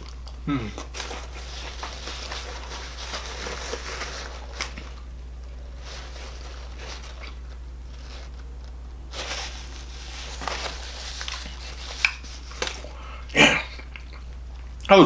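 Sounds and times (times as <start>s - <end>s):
person eating: 0.0s - 14.9s
steady low hum: 0.0s - 15.0s
soft rustles: 0.8s - 13.3s.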